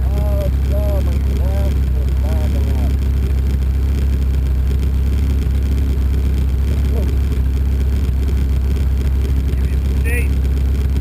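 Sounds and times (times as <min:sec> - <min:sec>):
race car engine rumble: 0:00.0 - 0:11.0.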